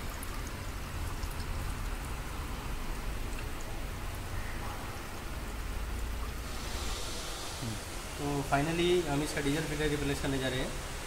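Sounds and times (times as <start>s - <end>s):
fuel dripping and trickling: 0.0s - 11.0s.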